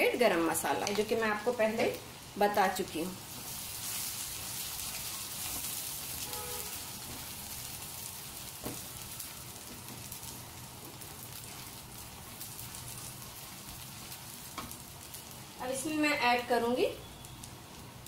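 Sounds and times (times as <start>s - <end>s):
spice frying in hot oil: 0.0s - 18.0s.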